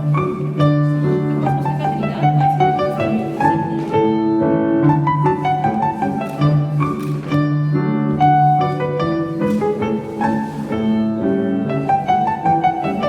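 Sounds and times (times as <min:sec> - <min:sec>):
classical piano music: 0:00.0 - 0:13.0.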